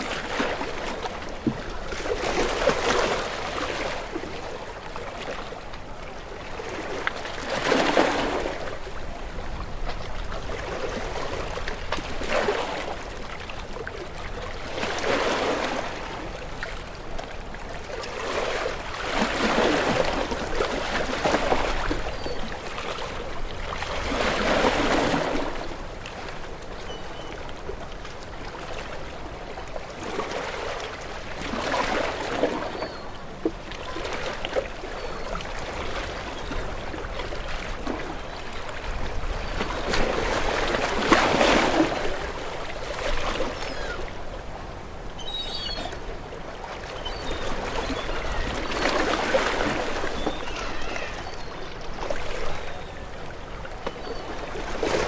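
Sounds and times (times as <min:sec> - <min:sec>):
gentle waves washing: 0:00.0 - 0:55.0.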